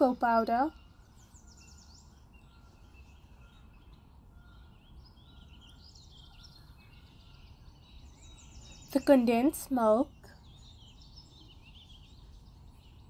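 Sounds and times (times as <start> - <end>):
faint bird chirps: 0.0 - 13.0
low steady background noise: 0.0 - 13.0.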